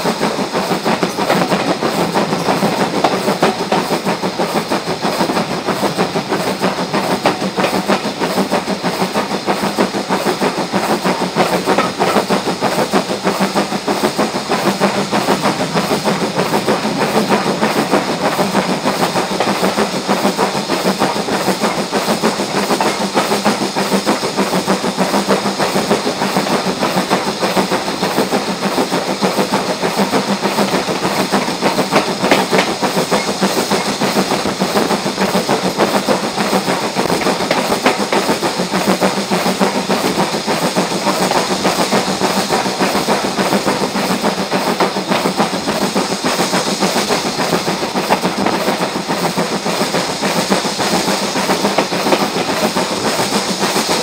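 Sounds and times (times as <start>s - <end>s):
steam hiss: 0.0s - 54.0s
train wheels on rails: 0.0s - 54.0s.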